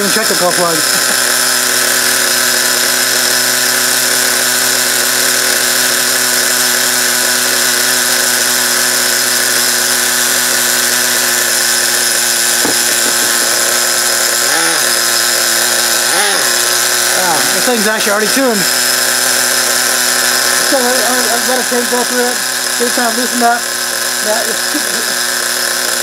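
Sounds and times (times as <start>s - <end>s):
small nitro engine running: 0.0s - 26.0s.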